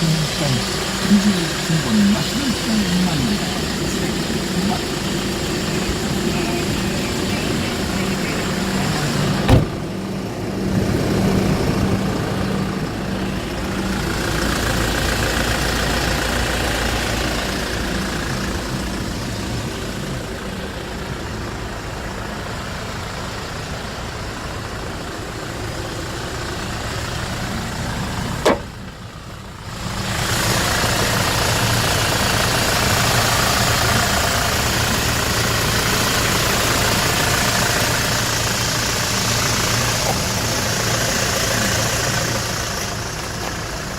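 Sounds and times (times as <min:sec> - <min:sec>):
refrigerator truck idling: 0:00.0 - 0:43.9.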